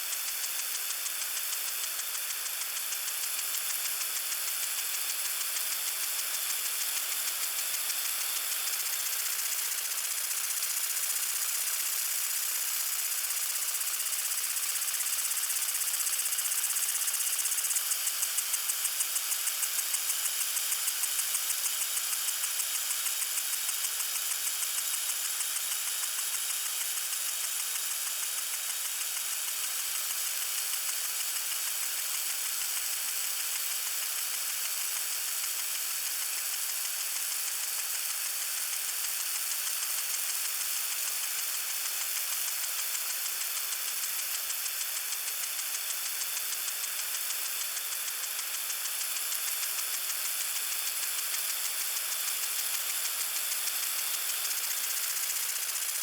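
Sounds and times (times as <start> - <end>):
lawn sprinkler spraying water: 0.0 - 56.0.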